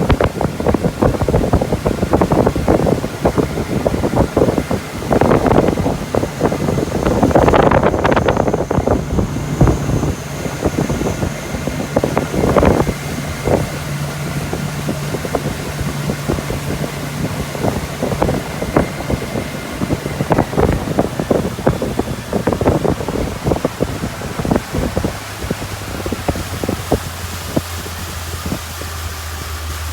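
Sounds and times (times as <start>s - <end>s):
motorboat engine droning: 0.0s - 29.9s
wind buffeting microphone: 0.0s - 29.9s.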